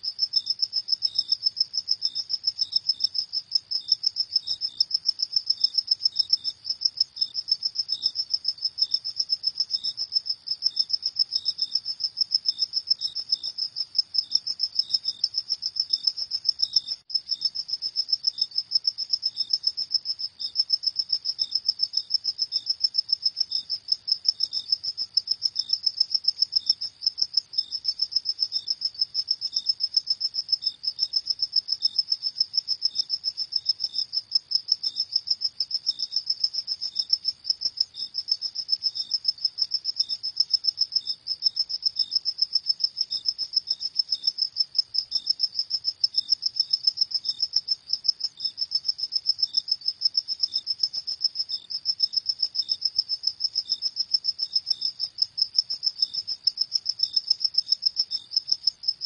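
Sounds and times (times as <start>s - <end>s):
lower cricket chirp: 0.0s - 59.0s.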